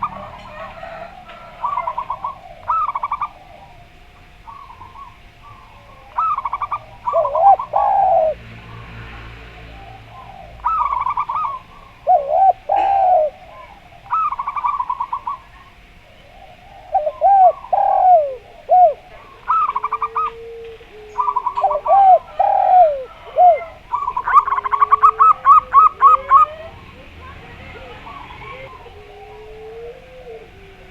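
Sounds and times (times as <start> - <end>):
low swinging dove coos: 0.0 - 8.9, 9.5 - 30.9.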